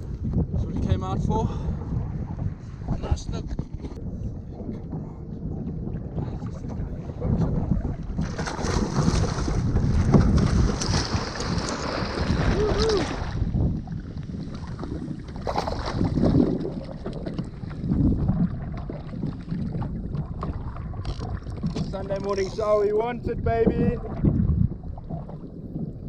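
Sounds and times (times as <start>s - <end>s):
wind buffeting microphone: 0.0s - 26.0s
water sloshing around kayak: 1.7s - 26.0s.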